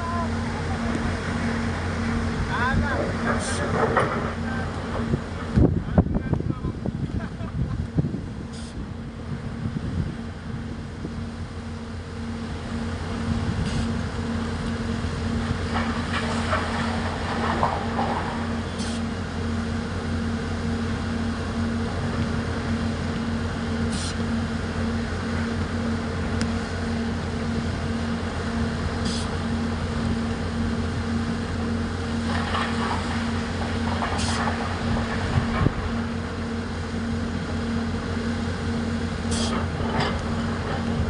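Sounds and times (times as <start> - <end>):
heavy diesel machinery drone: 0.0 - 41.0.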